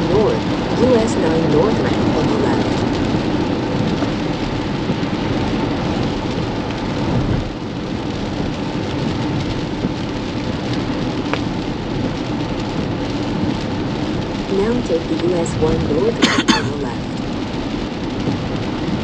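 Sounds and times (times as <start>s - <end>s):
low road rumble: 0.0s - 19.0s
rain and wet tyre hiss: 0.0s - 19.0s.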